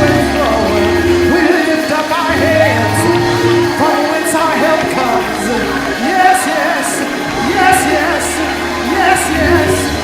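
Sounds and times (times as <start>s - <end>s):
many voices singing: 0.0s - 10.0s.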